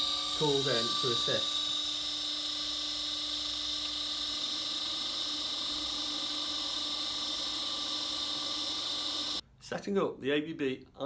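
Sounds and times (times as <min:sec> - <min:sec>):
high whine: 0:00.0 - 0:09.4
low hum: 0:00.0 - 0:09.4
pump drive whirring: 0:00.0 - 0:09.4.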